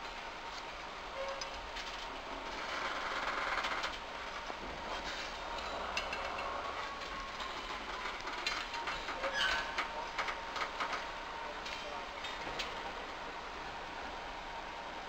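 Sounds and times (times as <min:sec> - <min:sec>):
train wheels and couplings clanking: 0:00.0 - 0:14.7.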